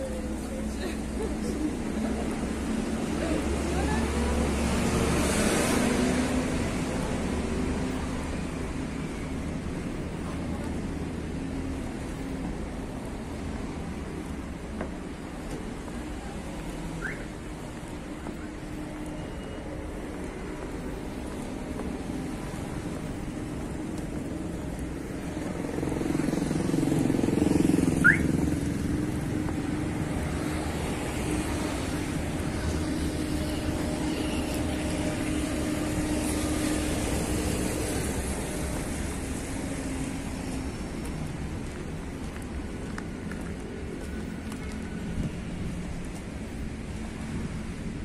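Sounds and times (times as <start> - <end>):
passing cars: 0.0 - 48.0.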